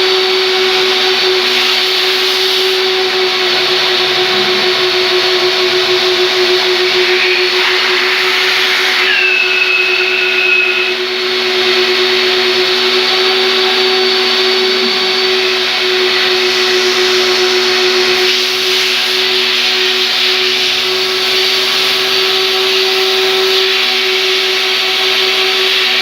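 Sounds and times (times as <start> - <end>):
high whistle: 0.0 - 26.0
vacuum cleaner running: 0.0 - 26.0.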